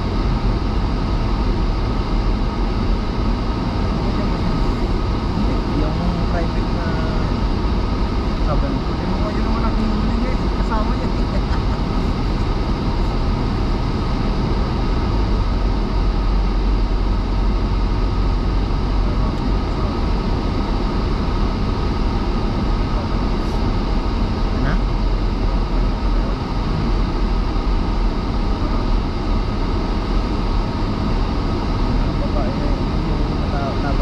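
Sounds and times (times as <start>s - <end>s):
car engine drone: 0.0s - 34.0s
road and tyre noise: 0.0s - 34.0s.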